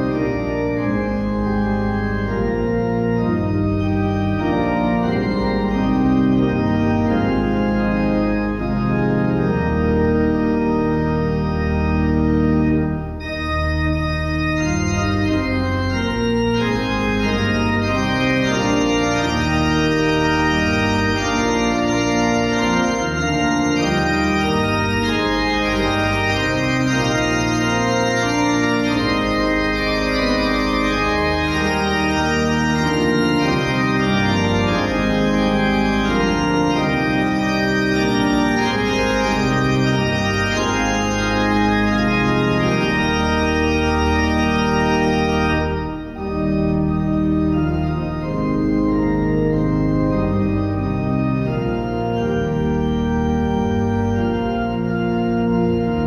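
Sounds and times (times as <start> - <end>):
organ playing hymn chords: 0.0 - 56.0.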